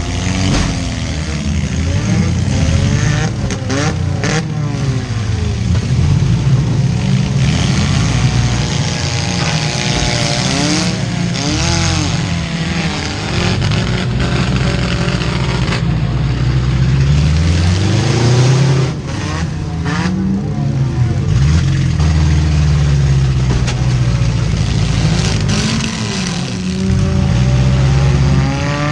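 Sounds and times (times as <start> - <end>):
car engines revving hard: 0.0 - 28.9.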